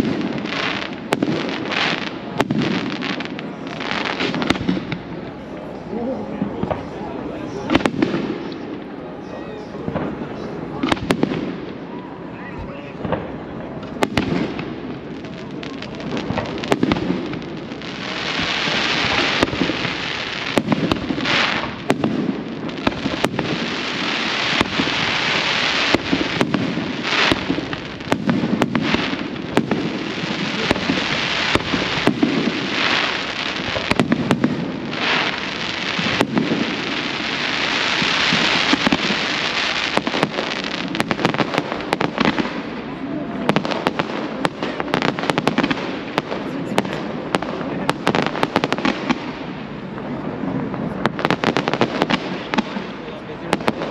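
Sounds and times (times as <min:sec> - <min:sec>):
firework bangs: 0:00.0 - 0:53.9
hissing crackle of fireworks: 0:00.0 - 0:53.9.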